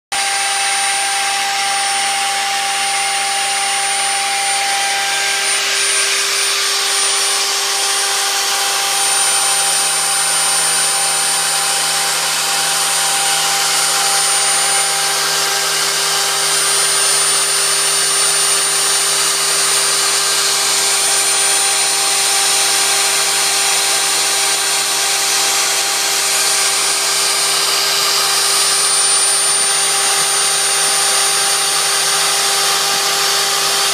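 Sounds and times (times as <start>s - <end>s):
router spindle cutting metal: 0.1s - 33.9s
steady tones: 0.1s - 33.9s.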